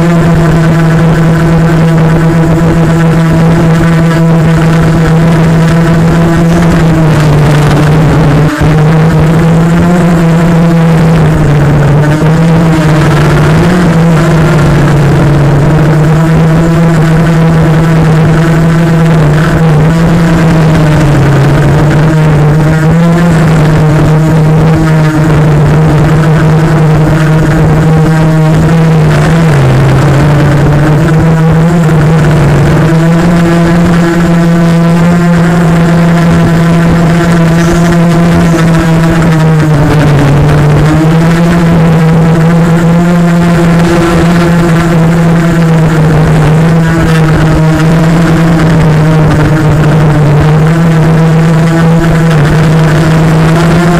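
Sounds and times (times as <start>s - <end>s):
quadcopter motors buzzing: 0.0s - 53.9s.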